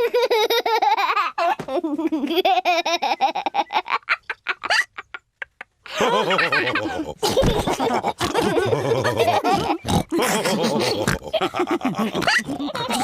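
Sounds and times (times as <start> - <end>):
cartoon voices laughing: 0.0 - 13.0.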